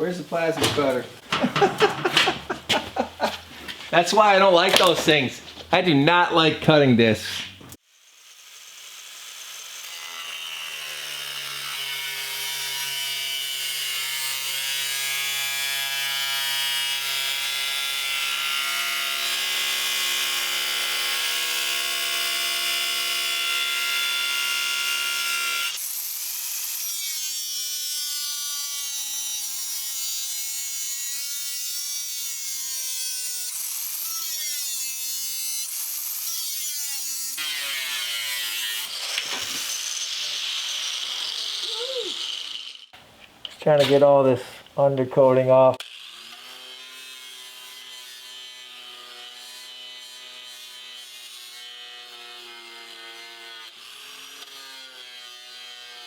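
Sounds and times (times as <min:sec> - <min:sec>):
electric angle grinder on metal: 0:07.7 - 0:43.0, 0:45.7 - 0:56.0.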